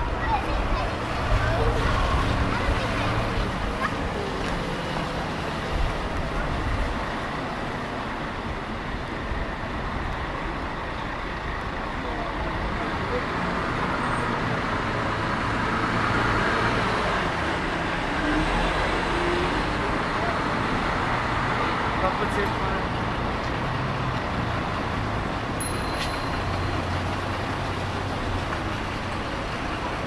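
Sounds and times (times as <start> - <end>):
road traffic: 0.0 - 30.0
voices of passers-by: 0.0 - 30.0.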